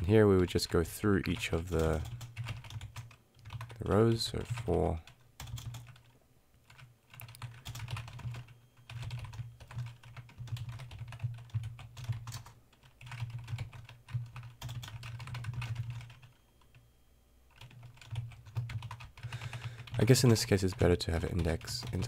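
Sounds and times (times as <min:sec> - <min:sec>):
typing on computer keyboard: 0:01.4 - 0:16.8, 0:17.5 - 0:20.6, 0:21.3 - 0:22.0.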